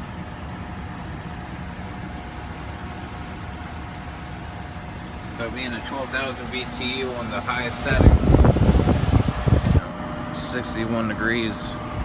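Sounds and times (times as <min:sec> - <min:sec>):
air conditioner running: 0:00.0 - 0:12.0
faint steady whine: 0:00.0 - 0:12.0.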